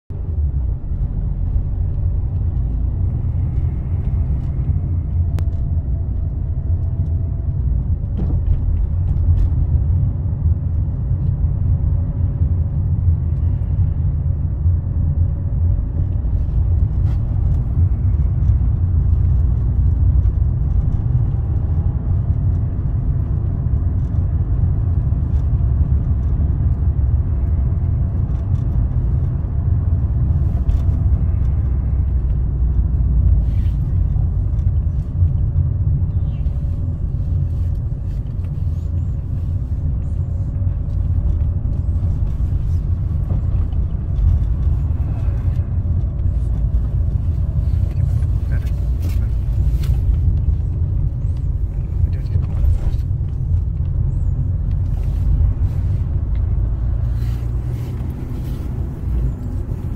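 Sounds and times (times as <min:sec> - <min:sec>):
car road rumble: 0:00.1 - 0:59.9.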